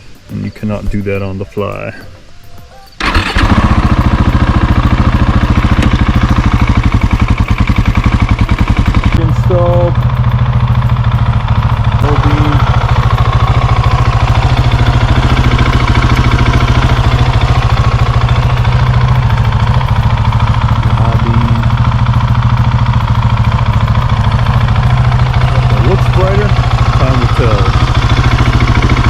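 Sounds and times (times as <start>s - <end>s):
motorcycle engine idling: 0.0s - 2.2s, 2.8s - 29.0s.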